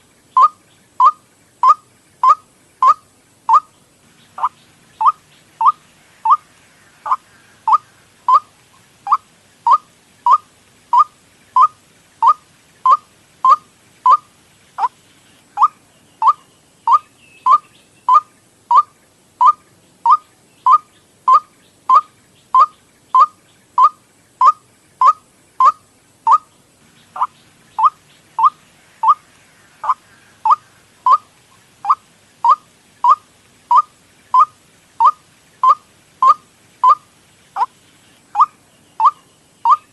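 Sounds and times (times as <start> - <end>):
waterhen call notes: 0.2 - 15.0, 15.6 - 39.9.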